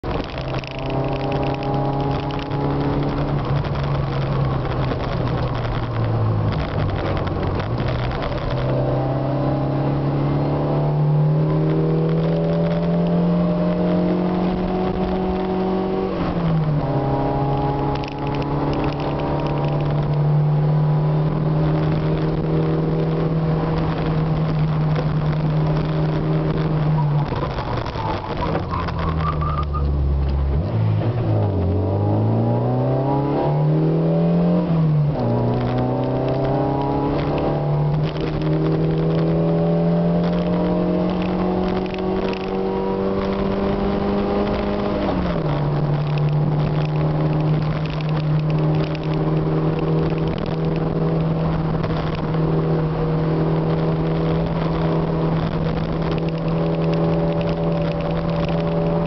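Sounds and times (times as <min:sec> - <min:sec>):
car engine from inside cabin: 0:00.0 - 0:59.0.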